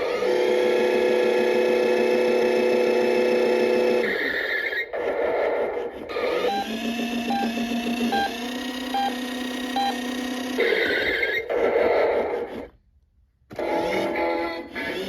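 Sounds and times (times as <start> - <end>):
noisy electronic sound: 0.6 - 12.8, 13.5 - 15.0.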